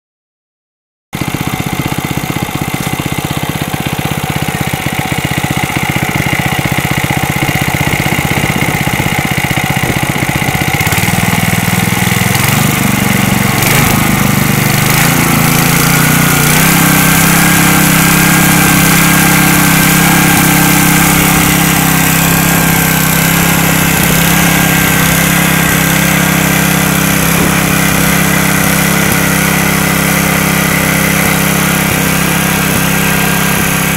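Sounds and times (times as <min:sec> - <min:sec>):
small engine running: 0:01.2 - 0:33.9.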